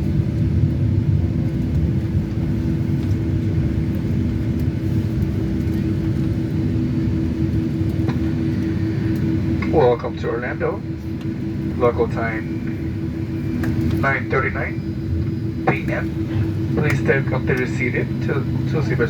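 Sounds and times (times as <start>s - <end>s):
engine and airflow rumble: 0.0s - 19.0s
steady cabin hum: 0.2s - 19.0s.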